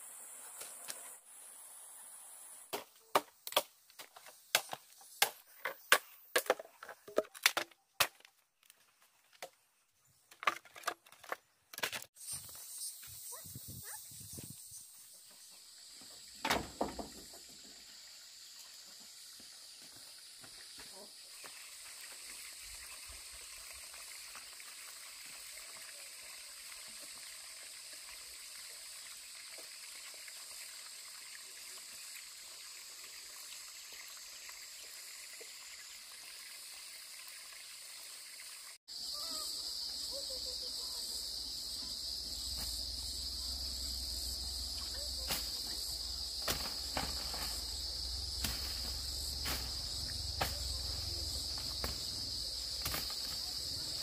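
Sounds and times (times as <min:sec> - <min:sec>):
insects droning: 0:00.0 - 0:06.5, 0:12.2 - 0:54.0.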